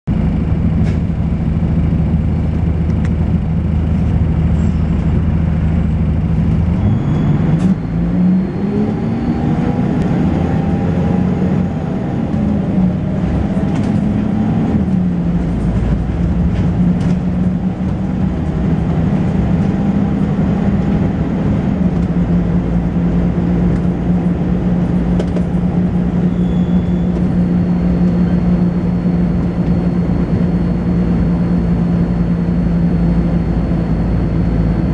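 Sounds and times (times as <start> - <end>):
bus diesel engine: 0.0 - 34.9.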